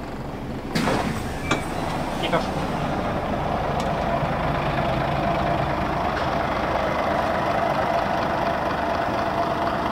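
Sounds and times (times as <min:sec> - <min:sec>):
bus diesel engine idling: 0:00.0 - 0:09.9.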